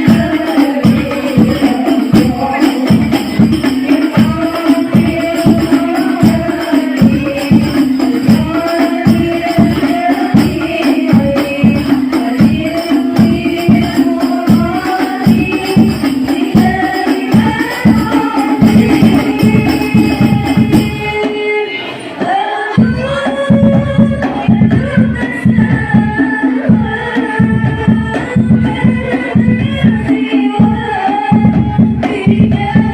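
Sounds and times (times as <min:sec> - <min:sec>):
frame drums beating: 0:00.0 - 0:21.4, 0:22.2 - 0:32.9
voices singing: 0:00.0 - 0:32.9.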